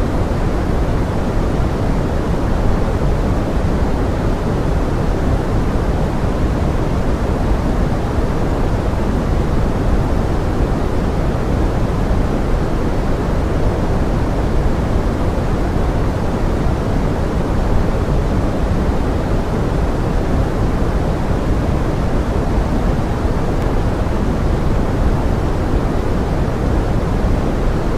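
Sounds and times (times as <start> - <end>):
pink noise rain hiss: 0.0 - 27.9.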